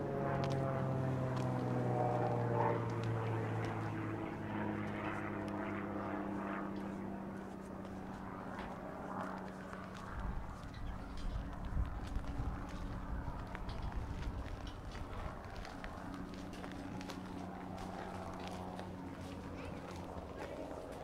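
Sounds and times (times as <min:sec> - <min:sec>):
passing engine drone: 0:00.0 - 0:21.0
footsteps on snowy walkway: 0:00.2 - 0:21.0.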